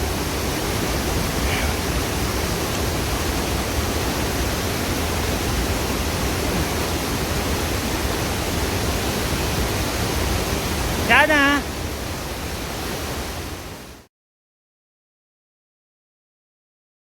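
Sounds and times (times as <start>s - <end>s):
waterfall rushing: 0.0s - 14.1s.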